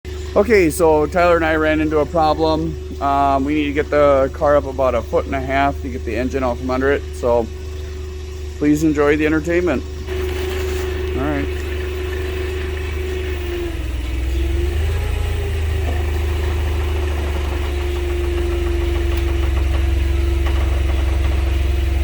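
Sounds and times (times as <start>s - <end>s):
forklift engine hum: 0.1s - 22.0s.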